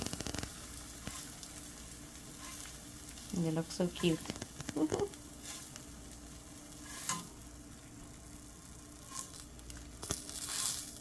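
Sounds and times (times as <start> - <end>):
cheese frying in oil: 0.0 - 11.0.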